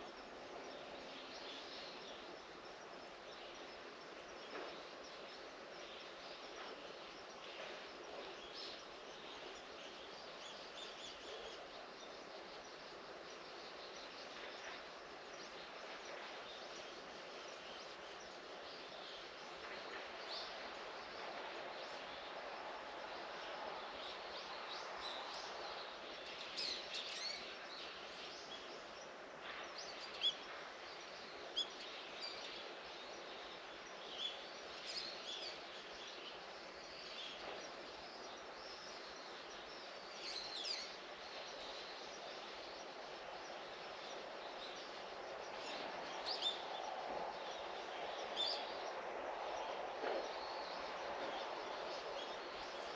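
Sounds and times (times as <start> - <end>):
outdoor background hiss: 0.0 - 52.9.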